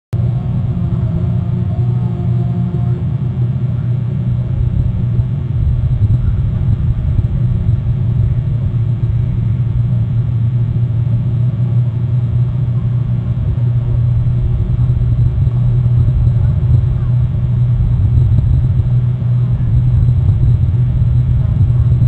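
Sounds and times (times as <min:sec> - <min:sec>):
motorboat engine droning: 0:00.1 - 0:22.0.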